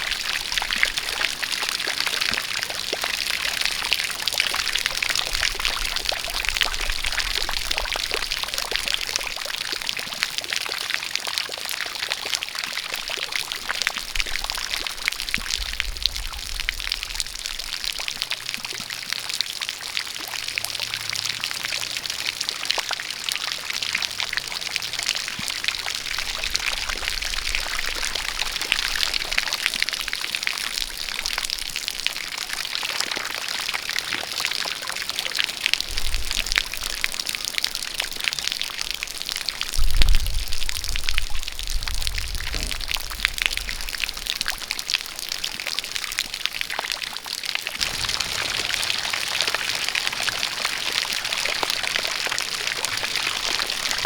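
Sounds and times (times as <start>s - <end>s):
steady rain patter: 0.0s - 54.0s
water pouring and splashing: 0.0s - 54.0s.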